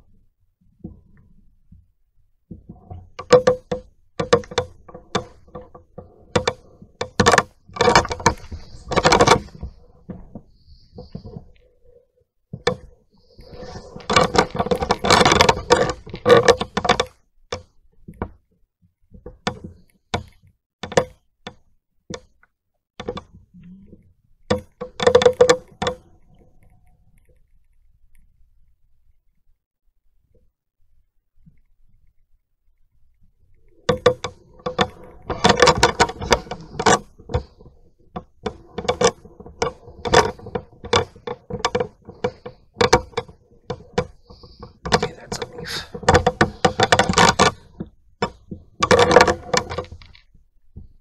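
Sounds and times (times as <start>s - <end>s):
sharp knocks and clicks: 2.5s - 11.6s, 12.5s - 28.3s, 31.4s - 51.0s.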